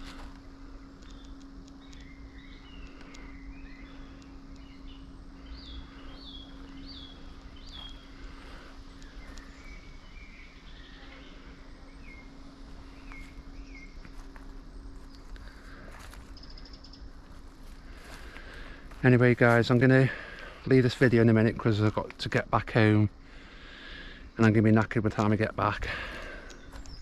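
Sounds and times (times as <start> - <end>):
birds chirping: 0.0 - 27.0
low rumble of wind: 0.0 - 27.0
steady low hum: 0.0 - 27.0.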